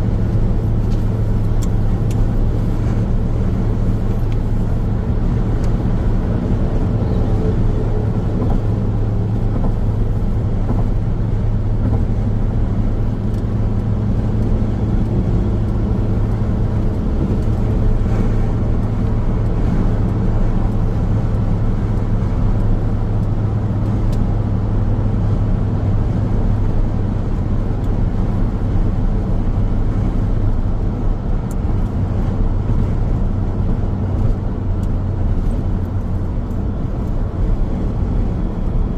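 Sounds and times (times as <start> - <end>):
car road noise: 0.0 - 38.9
constant low hum: 0.0 - 38.9.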